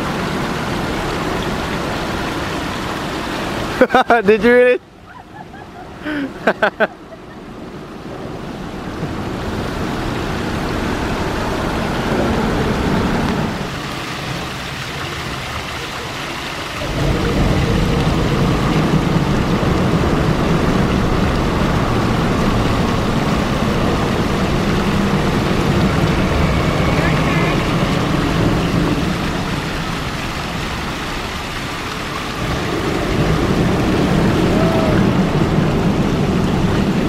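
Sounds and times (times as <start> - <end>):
waterfall rushing down rocks: 0.0 - 37.0.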